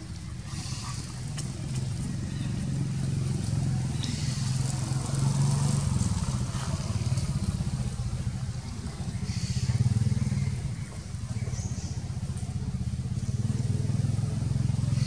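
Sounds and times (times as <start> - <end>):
small engine pulsing hum: 0.0 - 15.0.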